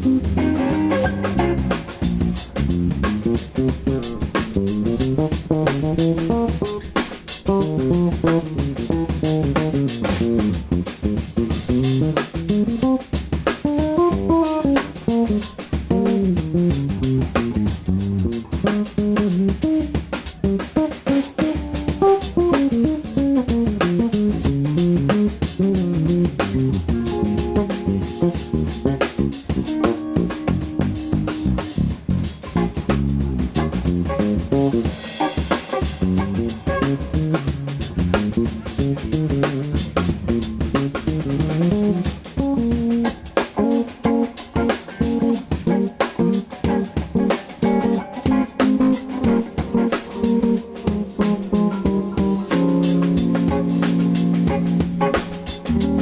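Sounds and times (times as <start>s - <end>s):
electric guitar melody: 0.0s - 56.0s
steady drums: 0.0s - 56.0s
walking bass: 0.0s - 56.0s.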